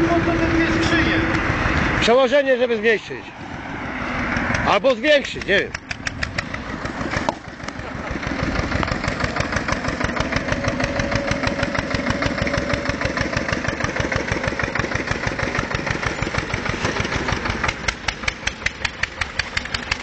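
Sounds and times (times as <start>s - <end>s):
tractor engine putting: 0.0s - 20.0s.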